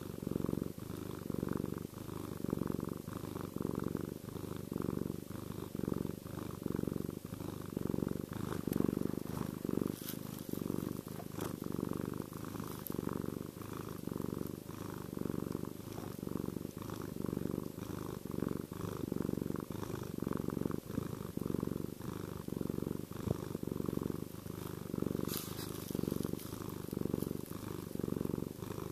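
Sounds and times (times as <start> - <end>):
cat purring: 0.0 - 28.9.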